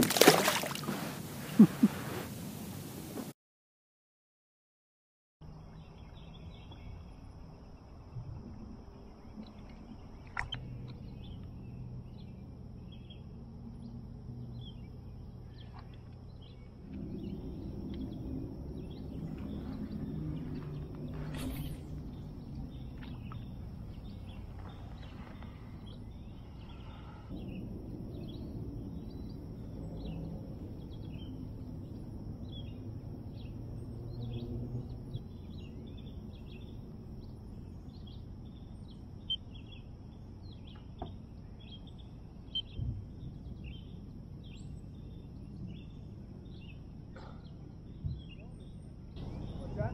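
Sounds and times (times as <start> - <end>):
steady low hum: 6.2 - 49.9
small birds chirping: 9.1 - 49.9.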